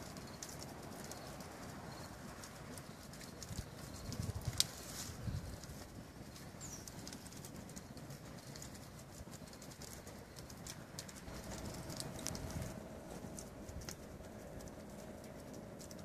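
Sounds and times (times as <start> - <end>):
faint steady hum: 0.0 - 16.0
wood fire crackling: 0.0 - 16.0.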